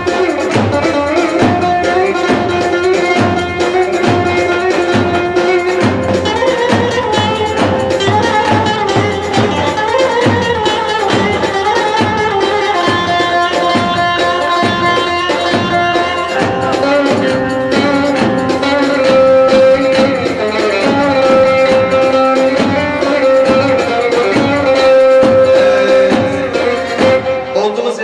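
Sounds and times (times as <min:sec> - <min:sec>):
bass drum beating: 0:00.0 - 0:27.5
held melody line: 0:00.0 - 0:28.0.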